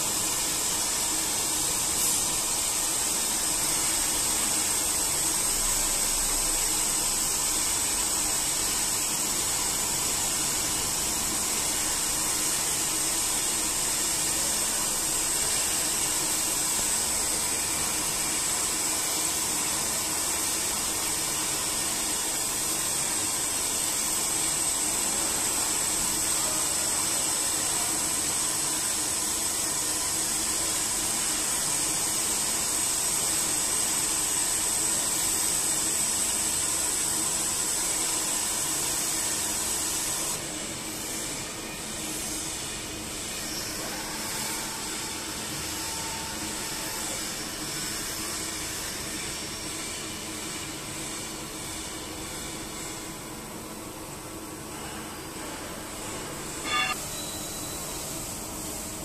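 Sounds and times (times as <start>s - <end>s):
high-pitched milling hiss: 0.0s - 59.0s.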